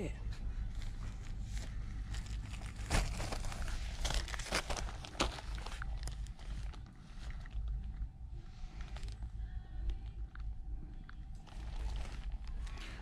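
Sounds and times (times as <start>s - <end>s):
plastic wrapping crinkling: 0.6s - 10.4s, 11.2s - 13.0s.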